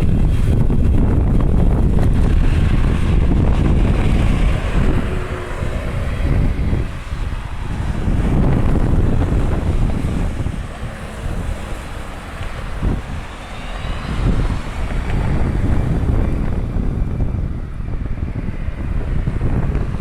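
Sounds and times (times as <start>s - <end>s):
faint gliding engine whine: 0.0s - 20.0s
jet airliner engines rumbling: 0.0s - 20.0s
wind buffeting microphone: 0.0s - 20.0s.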